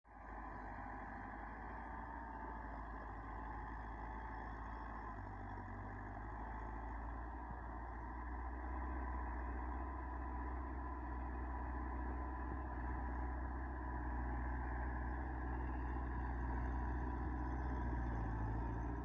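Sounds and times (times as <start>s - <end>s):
tractor engine droning: 0.1s - 19.0s.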